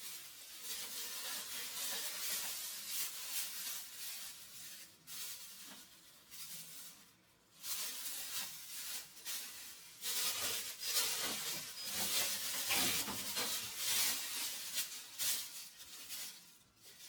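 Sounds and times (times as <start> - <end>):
rustling and handling noise: 0.0 - 17.0.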